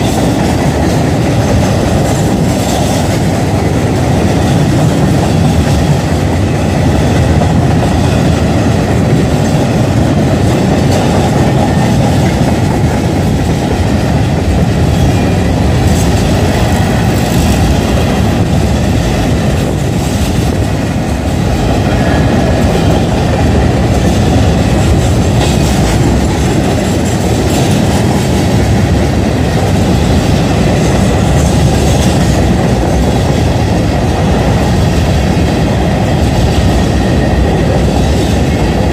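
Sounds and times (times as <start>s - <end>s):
train rolling on rails: 0.0s - 38.9s.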